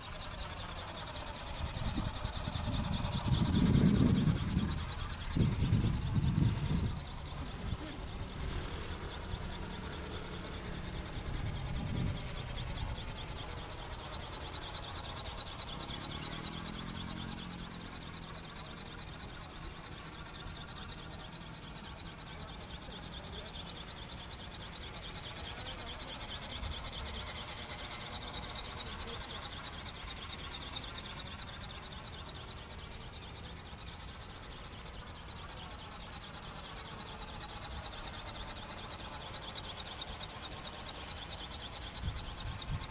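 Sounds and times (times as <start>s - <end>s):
flapping-wing model whirring: 0.0s - 42.9s.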